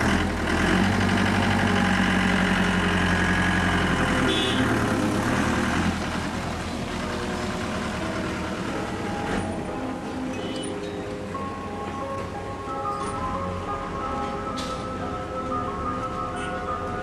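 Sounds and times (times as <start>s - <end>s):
bus engine passing by: 0.0s - 17.0s.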